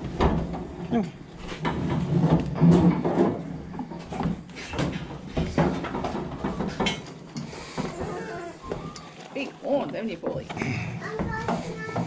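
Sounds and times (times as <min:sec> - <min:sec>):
knocks and clatter: 0:00.0 - 0:09.2, 0:09.8 - 0:12.0.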